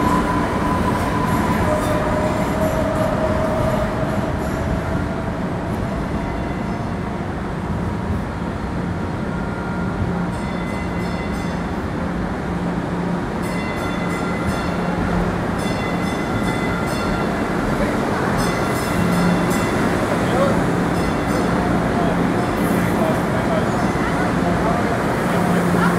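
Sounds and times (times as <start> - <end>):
train rumbling: 0.0 - 25.9.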